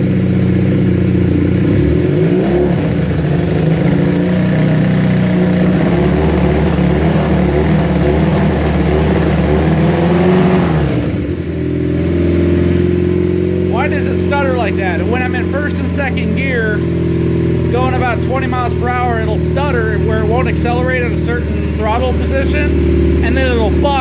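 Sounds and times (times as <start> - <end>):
motorcycle engine revving unevenly: 0.0 - 24.0.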